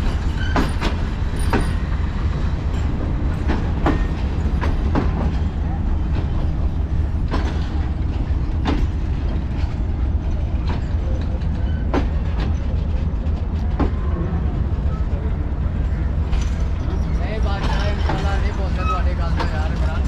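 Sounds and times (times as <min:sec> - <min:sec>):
train coaches rumbling: 0:00.0 - 0:20.0
wheels clicking on rail joints: 0:00.0 - 0:20.0.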